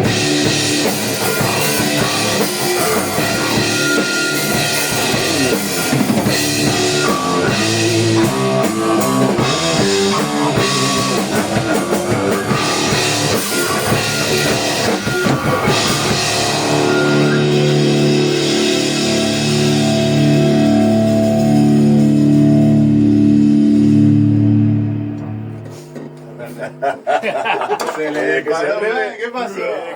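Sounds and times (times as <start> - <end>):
drum kit: 0.0 - 26.8
electric guitars: 0.0 - 27.8.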